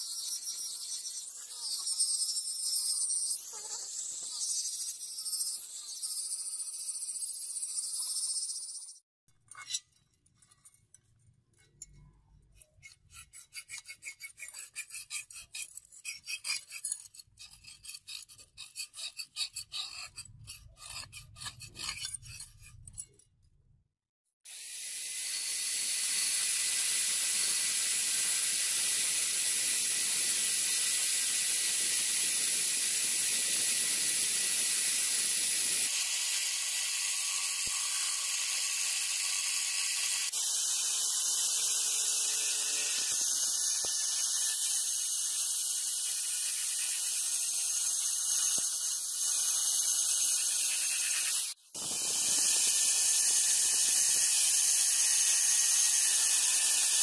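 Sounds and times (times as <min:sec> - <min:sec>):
rotary tool grinding blade: 0:00.0 - 0:23.4, 0:24.5 - 0:57.0
file scraping steel blade: 0:00.0 - 0:23.6, 0:24.5 - 0:57.0.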